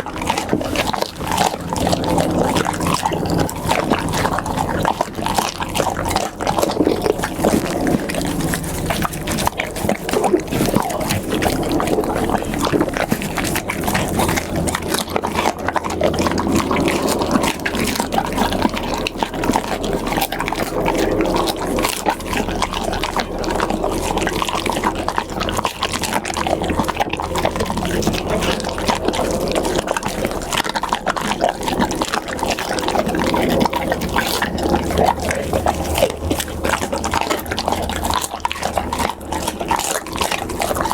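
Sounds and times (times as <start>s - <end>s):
dog chewing and mouth smacking: 0.0s - 40.9s.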